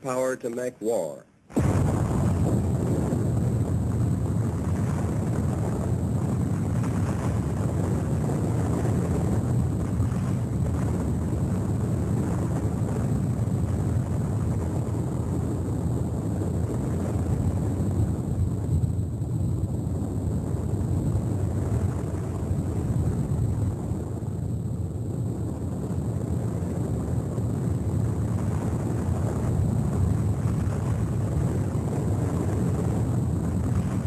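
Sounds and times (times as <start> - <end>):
low rumbling drone: 1.5 - 34.0.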